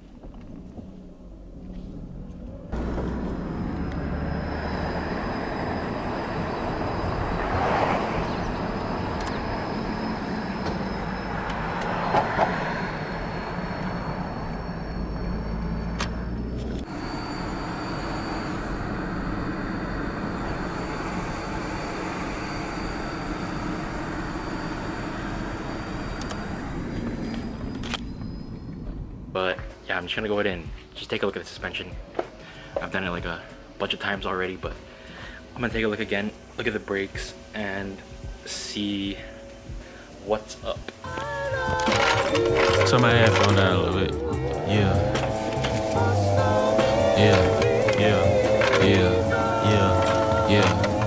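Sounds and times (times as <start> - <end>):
car engine and road noise: 0.0 - 51.0
faint high whine: 0.0 - 51.0.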